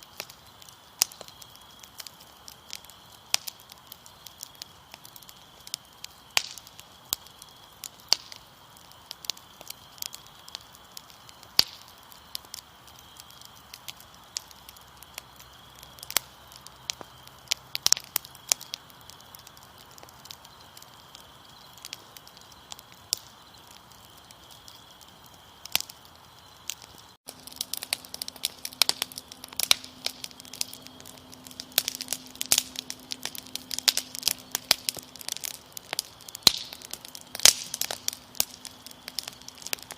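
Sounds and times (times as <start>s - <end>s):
crickets chirring: 0.0s - 39.9s
wood fire crackling and popping: 0.0s - 39.9s.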